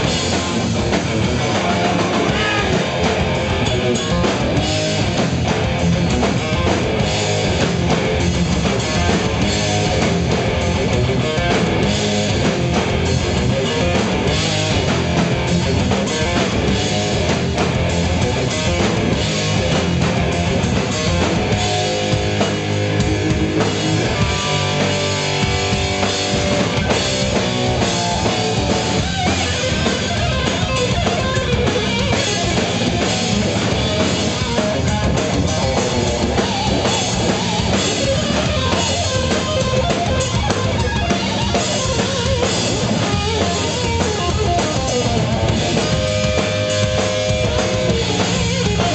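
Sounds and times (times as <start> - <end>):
bass guitar: 0.0 - 48.9
drum kit: 0.0 - 48.9
electric guitar: 0.0 - 48.9.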